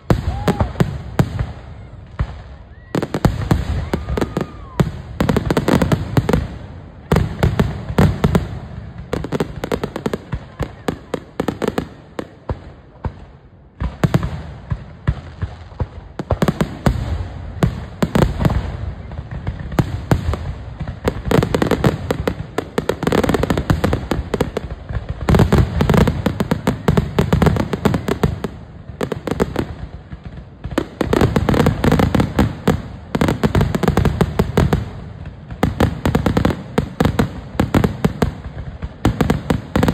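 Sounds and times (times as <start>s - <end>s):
fireworks bursting with booms: 0.0s - 39.9s
fireworks crackling: 0.0s - 39.9s.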